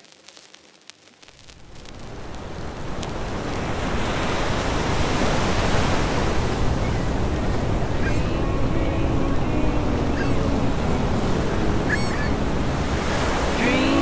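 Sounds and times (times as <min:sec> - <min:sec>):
ocean surf breaking: 0:01.6 - 0:14.0.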